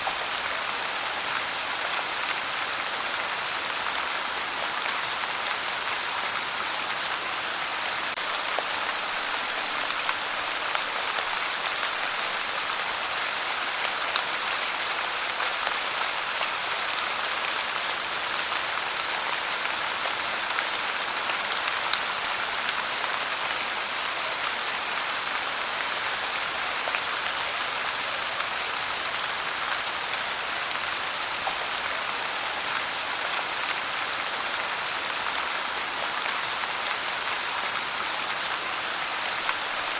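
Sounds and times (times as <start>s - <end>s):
pouring rain hiss: 0.0s - 39.9s.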